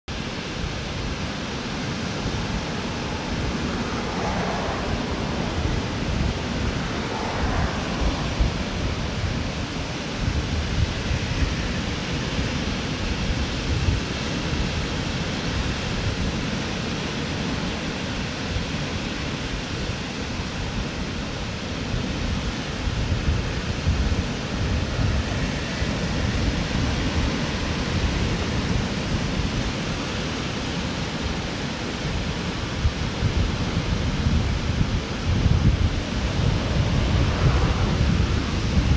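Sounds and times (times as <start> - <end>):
waves washing up a beach: 0.1 - 38.9
wind rumble on microphone: 0.1 - 38.9.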